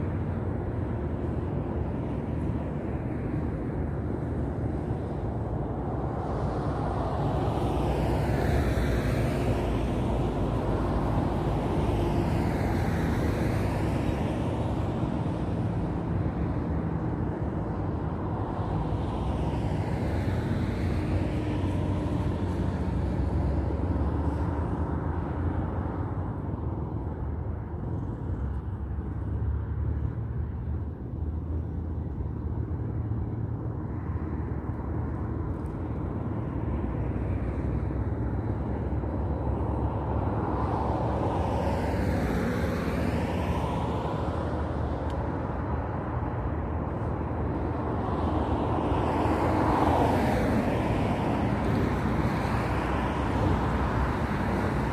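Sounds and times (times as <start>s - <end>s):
cars passing by: 0.0s - 54.9s.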